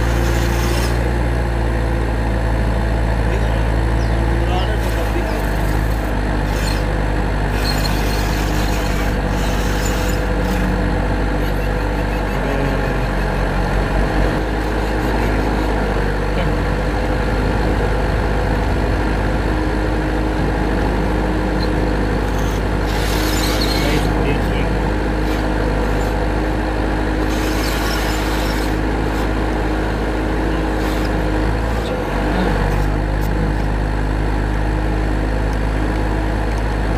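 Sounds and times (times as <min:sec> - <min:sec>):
mechanical drone: 0:00.0 - 0:36.9.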